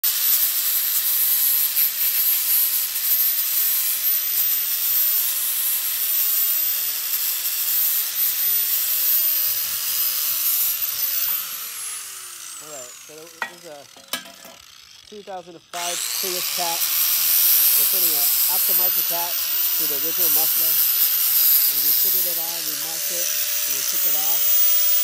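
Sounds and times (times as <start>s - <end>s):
angle grinder grinding metal pipe: 0.0s - 25.0s
grinder spinning down: 0.1s - 25.0s.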